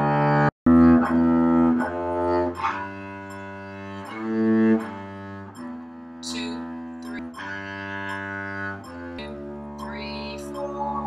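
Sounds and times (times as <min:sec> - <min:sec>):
bowed double bass low note: 0:00.0 - 0:11.0.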